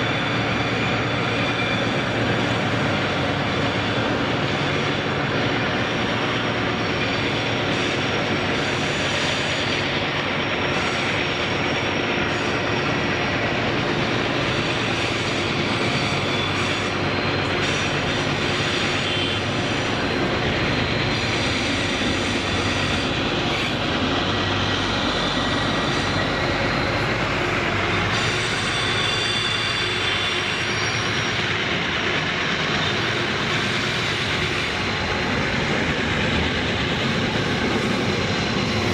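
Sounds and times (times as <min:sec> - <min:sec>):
high wheel squeals: 0:00.0 - 0:38.9.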